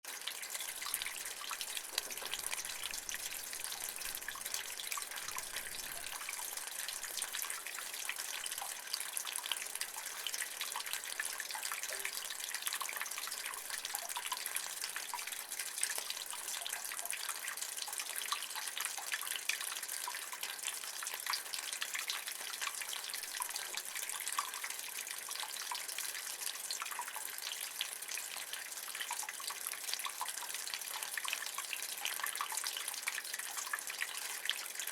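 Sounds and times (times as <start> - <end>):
water drips and splashes: 0.0 - 34.9
water trickling in a rain gutter: 0.0 - 34.9.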